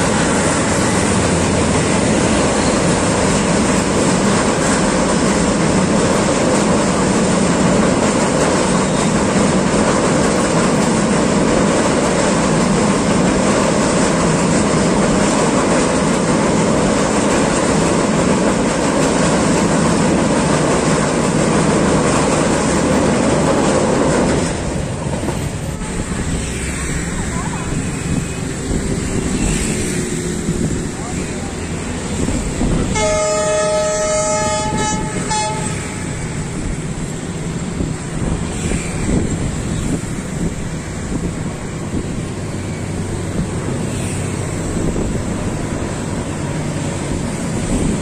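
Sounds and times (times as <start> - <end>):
train wheels rolling on bridge: 0.0 - 48.0.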